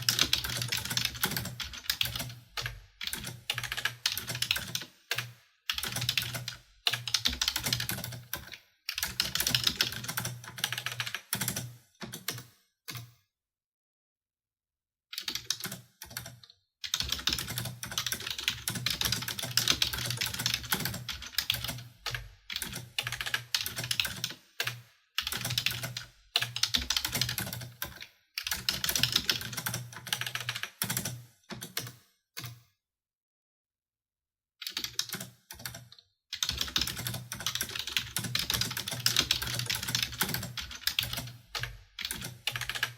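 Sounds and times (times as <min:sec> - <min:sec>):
fast typing on keyboard: 0:00.0 - 0:12.5, 0:15.2 - 0:32.0, 0:34.6 - 0:42.9.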